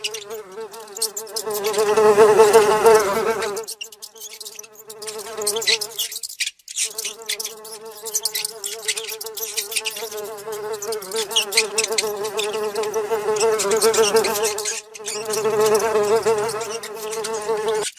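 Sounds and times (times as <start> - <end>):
housefly buzzing: 0.0 - 6.2, 6.9 - 17.9.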